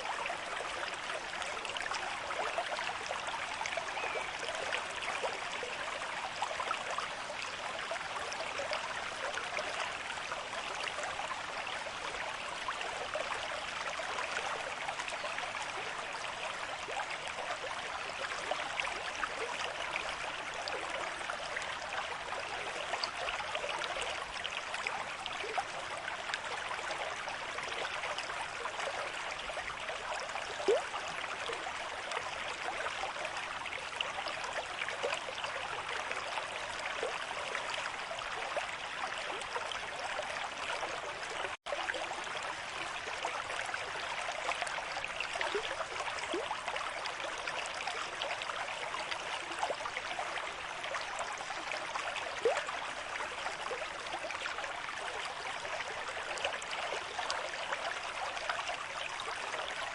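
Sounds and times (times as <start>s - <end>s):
river stream flowing: 0.0s - 59.9s.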